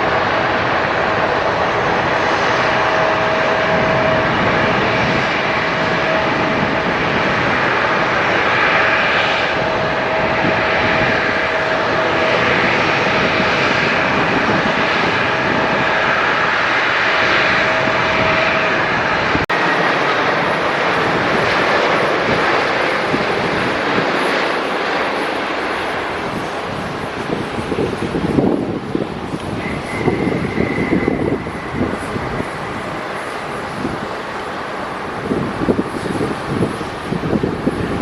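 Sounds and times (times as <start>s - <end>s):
engine whine: 0.0s - 38.0s
jet engines roaring: 0.0s - 38.0s.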